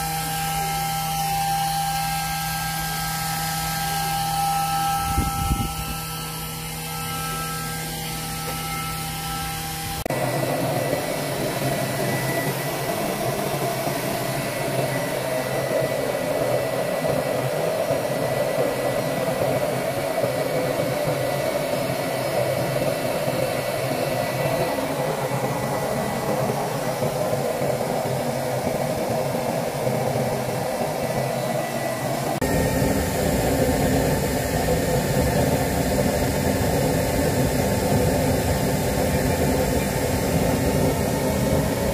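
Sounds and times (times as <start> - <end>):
stove fire roaring: 0.0 - 41.9.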